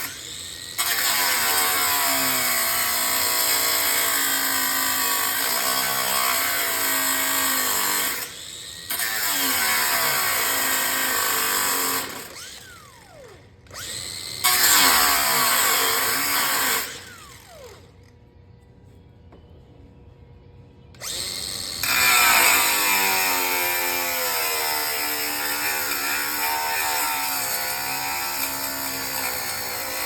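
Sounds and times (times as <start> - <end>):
reciprocating saw cutting metal: 0.0 - 17.8, 21.0 - 30.0.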